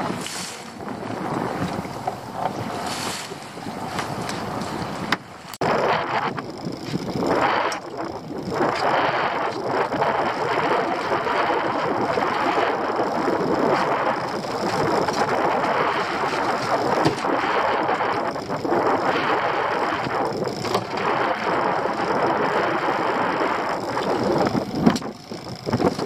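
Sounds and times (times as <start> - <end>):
sea noise: 0.0 - 26.0
wind buffeting microphone: 0.0 - 26.0.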